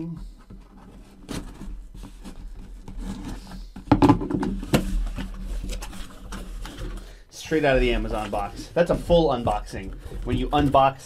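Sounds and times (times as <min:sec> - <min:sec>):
cardboard scraping and rubbing: 0:00.6 - 0:03.8, 0:04.6 - 0:11.0.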